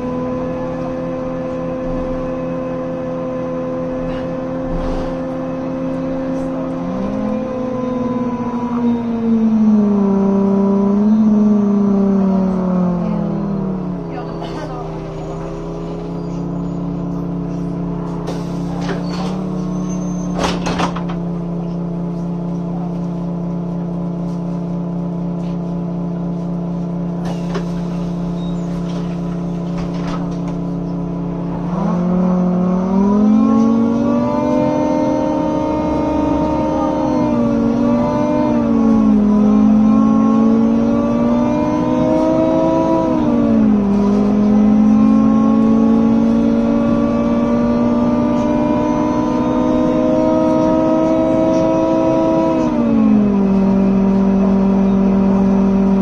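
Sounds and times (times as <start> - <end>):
bus accelerating and shifting gears: 0.0 - 56.0
bus engine idling: 0.0 - 56.0.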